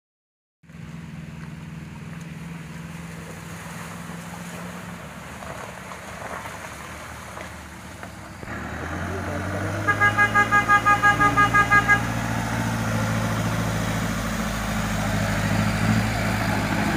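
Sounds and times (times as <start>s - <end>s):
car engine hum: 0.6s - 16.9s
tyres splashing through water: 0.8s - 16.9s.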